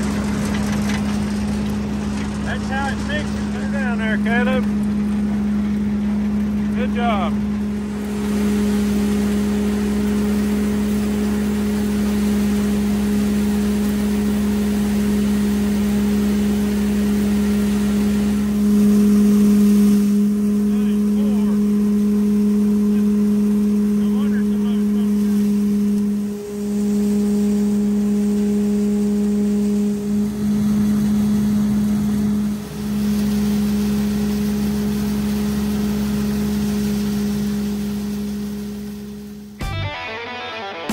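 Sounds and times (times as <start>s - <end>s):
hammer mill humming: 0.0s - 40.9s.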